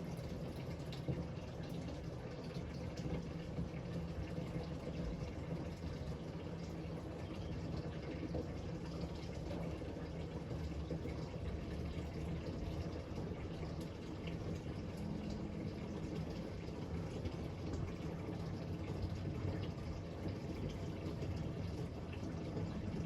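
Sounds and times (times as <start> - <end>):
low steady hum: 0.0 - 23.0
water running from a tap: 0.0 - 23.0.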